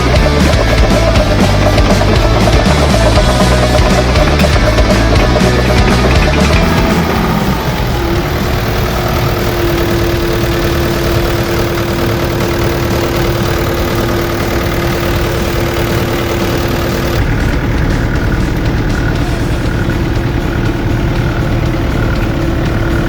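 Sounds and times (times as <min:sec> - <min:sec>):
excavator diesel engine idling: 0:00.0 - 0:23.0
steady whine: 0:00.0 - 0:23.0.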